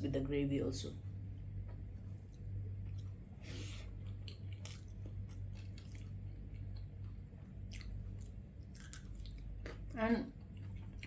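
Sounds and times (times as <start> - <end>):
steady low hum: 0.0 - 11.0
person chewing with wet smacks: 1.6 - 11.0.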